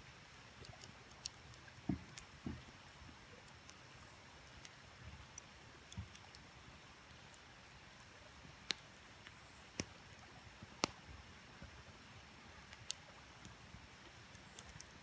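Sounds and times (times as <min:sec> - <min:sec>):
faint creek hiss: 0:00.0 - 0:15.0
campfire crackling and popping: 0:00.2 - 0:15.0.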